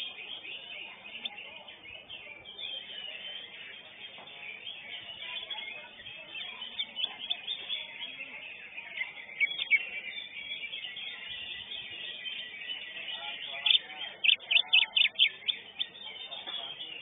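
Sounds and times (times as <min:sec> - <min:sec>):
bird singing chirps and whistles: 0:00.0 - 0:17.0.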